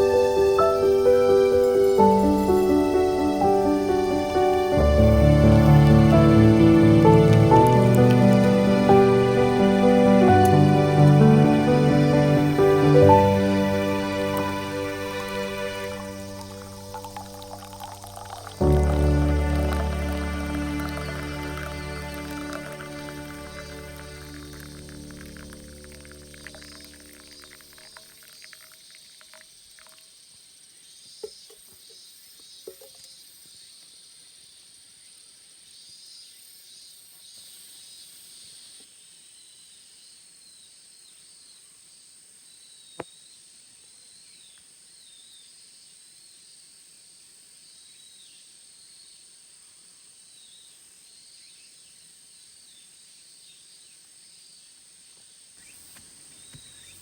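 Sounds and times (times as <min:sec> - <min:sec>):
insect chirps: 0:00.0 - 0:57.0
insects droning: 0:00.0 - 0:57.0.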